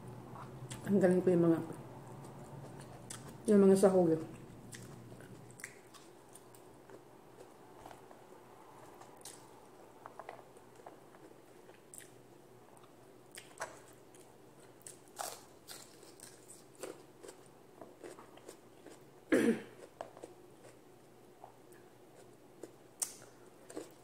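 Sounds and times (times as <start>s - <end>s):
person chewing food: 2.0s - 3.5s, 4.3s - 19.1s, 19.7s - 24.0s.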